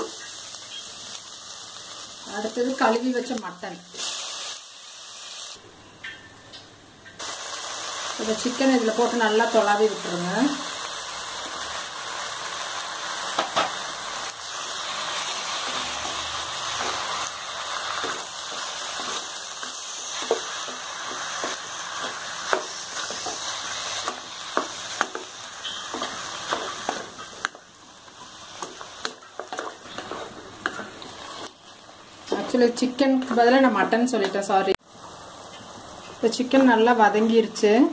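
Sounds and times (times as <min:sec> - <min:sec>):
chicken sizzling in hot oil: 0:00.0 - 0:05.6, 0:07.2 - 0:33.3.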